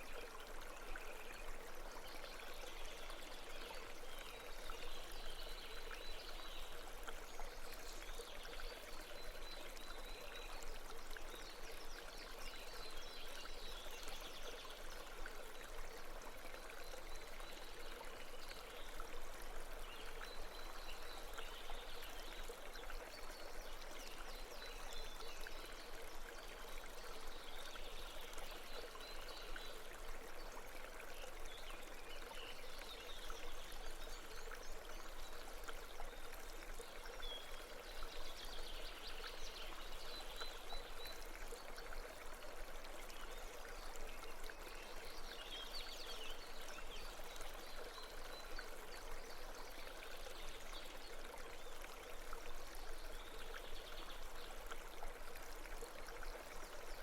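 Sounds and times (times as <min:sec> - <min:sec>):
brook water running: 0:00.0 - 0:57.0.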